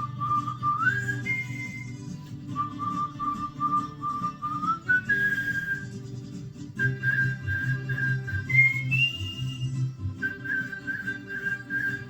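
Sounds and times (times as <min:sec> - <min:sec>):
cockatiel whistling: 0:00.0 - 0:06.0, 0:06.8 - 0:12.0.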